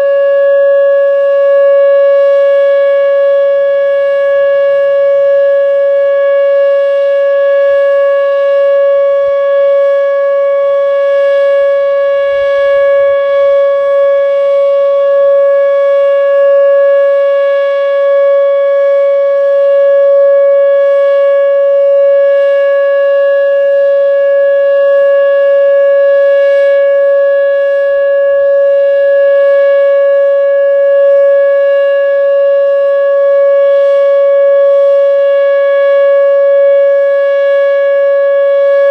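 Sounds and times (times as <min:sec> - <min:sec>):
steady warning siren tone: 0:00.0 - 0:38.9.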